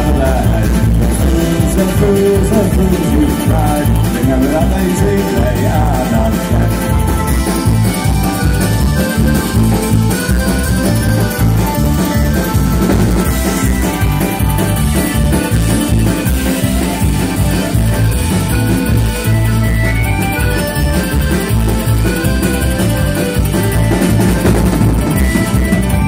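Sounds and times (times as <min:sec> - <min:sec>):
accordion melody: 0:00.0 - 0:26.0
live folk-rock band playing: 0:00.0 - 0:26.0.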